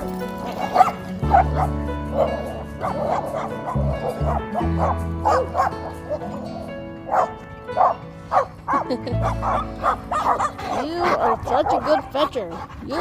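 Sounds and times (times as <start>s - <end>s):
background music: 0.0s - 13.0s
dog yipping and barking: 0.4s - 12.6s.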